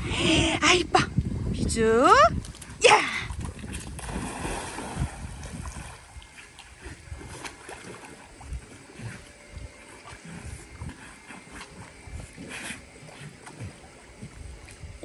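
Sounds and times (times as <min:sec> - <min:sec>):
wind buffeting microphone: 0:00.0 - 0:15.0
water sloshing and lapping: 0:01.0 - 0:15.0.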